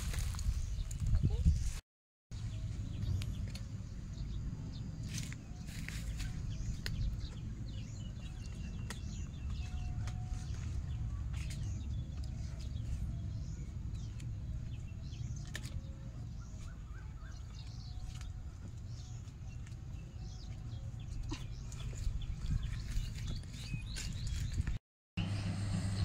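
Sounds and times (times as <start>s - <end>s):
small birds chirping: 2.4s - 24.8s.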